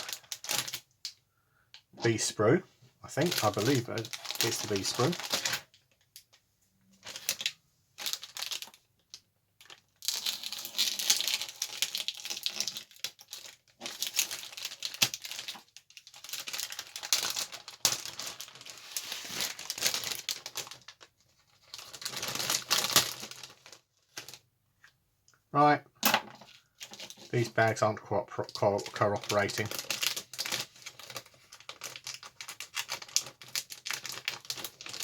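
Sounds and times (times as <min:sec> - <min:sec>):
plastic bags crinkling: 0:00.0 - 0:00.9, 0:03.1 - 0:06.3, 0:07.0 - 0:24.4, 0:26.4 - 0:27.8, 0:28.4 - 0:35.0.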